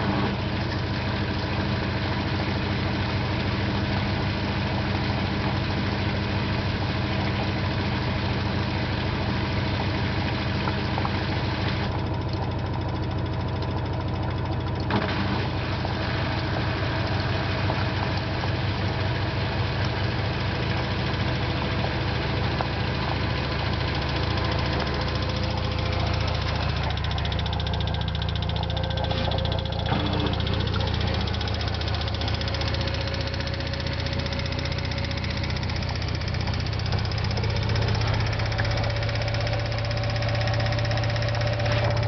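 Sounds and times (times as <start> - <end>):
washing machine drum spinning hum: 0.0 - 42.0.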